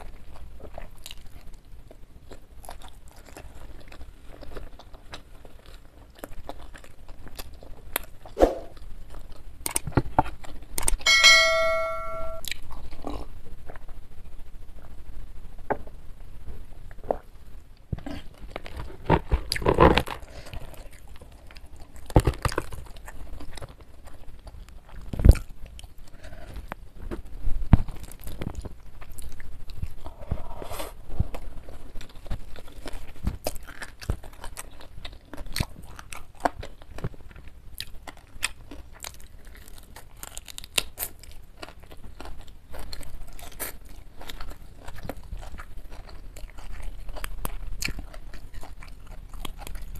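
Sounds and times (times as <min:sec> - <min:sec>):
crunching and chewing crispy food: 0:00.0 - 0:11.1, 0:12.4 - 0:49.9.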